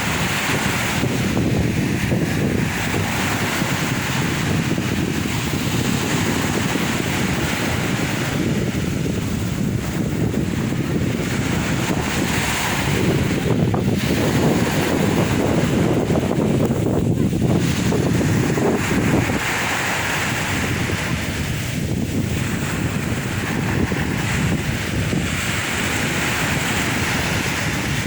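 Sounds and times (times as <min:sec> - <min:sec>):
sea waves breaking on shore: 0:00.0 - 0:28.0
wind buffeting microphone: 0:00.0 - 0:28.0.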